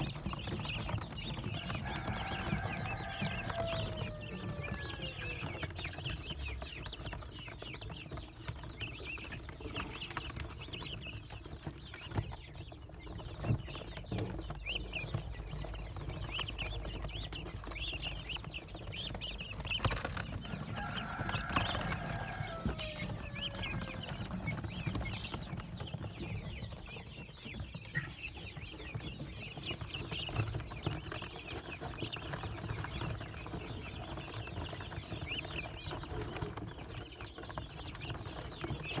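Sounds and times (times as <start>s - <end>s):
young birds peeping: 0.0s - 39.0s.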